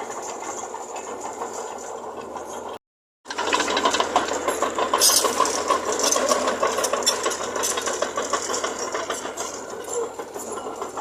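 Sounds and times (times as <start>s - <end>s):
diesel engine running: 0.0s - 11.0s
metallic rattling and clatter: 0.0s - 11.0s.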